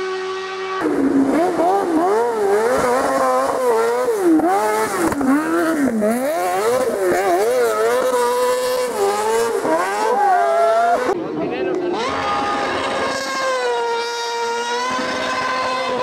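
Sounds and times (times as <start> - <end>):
motorcycle engine revving hard: 0.0 - 11.2, 11.9 - 16.0.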